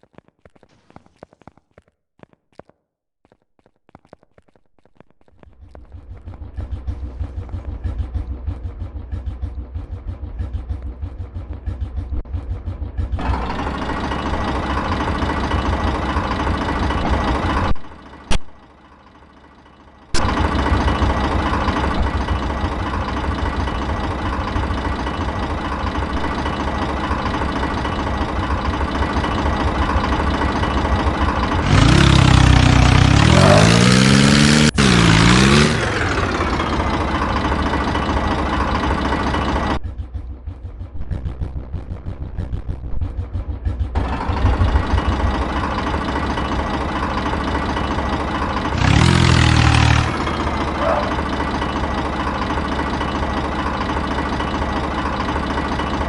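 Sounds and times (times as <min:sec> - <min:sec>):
tractor engine running: 0:03.9 - 0:56.0.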